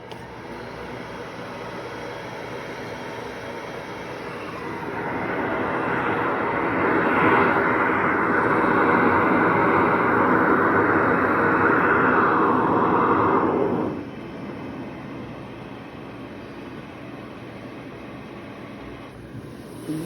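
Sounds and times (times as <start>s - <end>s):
machine blowing air: 0.0s - 20.0s.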